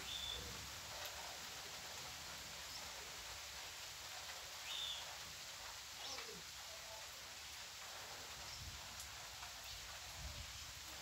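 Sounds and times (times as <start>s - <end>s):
light rain hiss: 0.0s - 11.0s.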